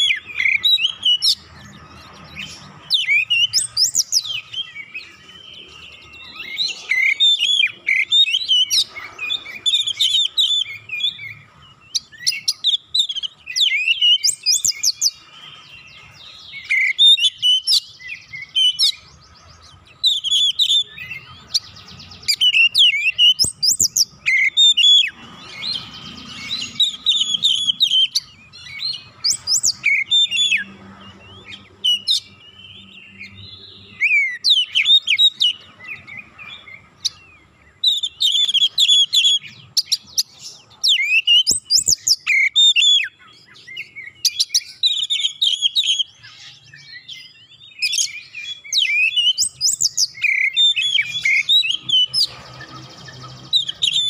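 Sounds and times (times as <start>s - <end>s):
bird singing whistled phrases: 2.3s - 19.1s, 20.0s - 54.0s.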